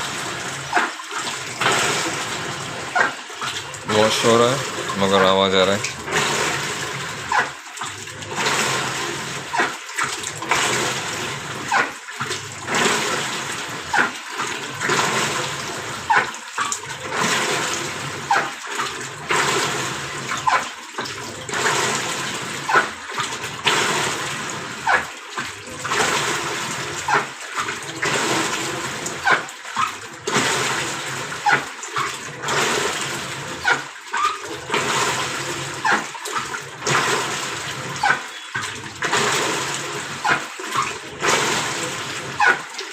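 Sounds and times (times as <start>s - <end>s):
washing machine churning water: 0.0s - 42.9s.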